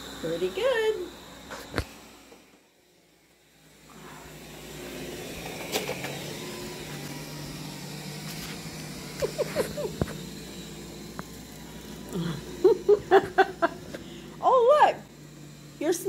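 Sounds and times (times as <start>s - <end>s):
robot vacuum motor hum: 0.0s - 16.0s.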